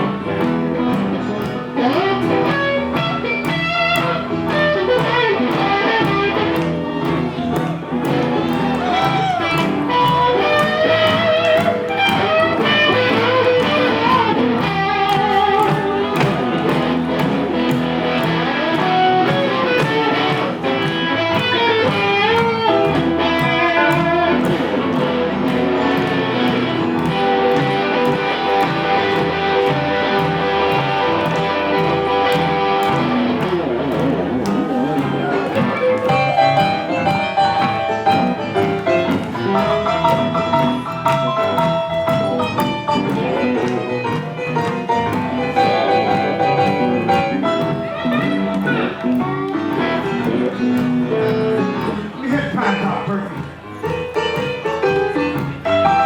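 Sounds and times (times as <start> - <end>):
blues band playing: 0.0 - 56.0
electric guitar lead: 0.0 - 56.0.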